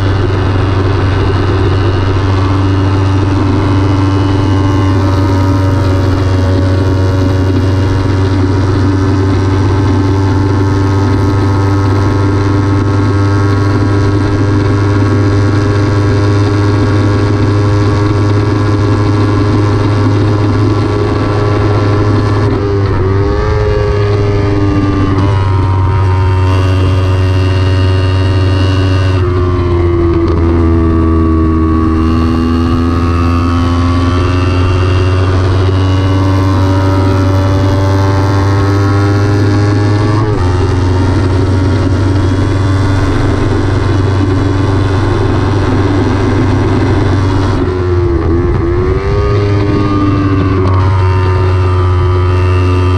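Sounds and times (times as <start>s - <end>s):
motorcycle engine at high revs: 0.0s - 52.9s.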